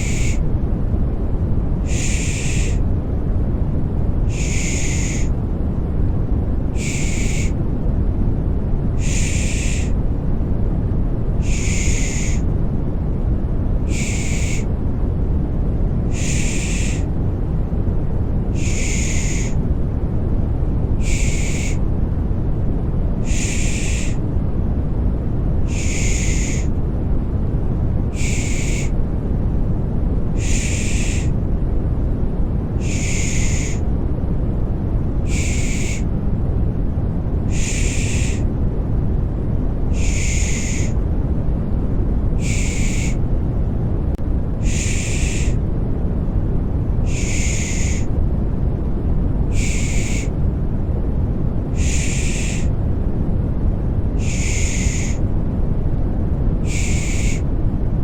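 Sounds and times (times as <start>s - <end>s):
deep rushing white noise: 0.0s - 58.0s.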